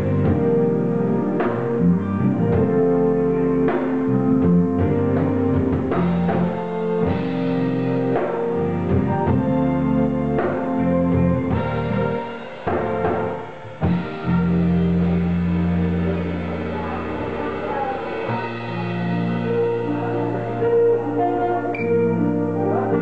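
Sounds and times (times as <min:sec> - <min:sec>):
drum kit: 0:00.0 - 0:23.0
guitar: 0:00.0 - 0:23.0.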